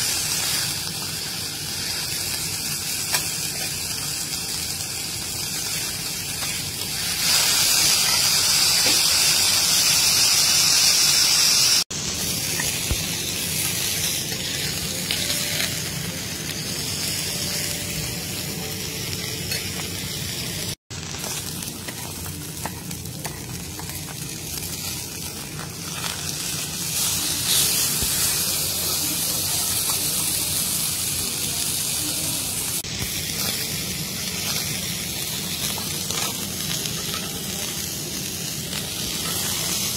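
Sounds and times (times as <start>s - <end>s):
steaks sizzling on a steel griddle: 0.0s - 39.9s.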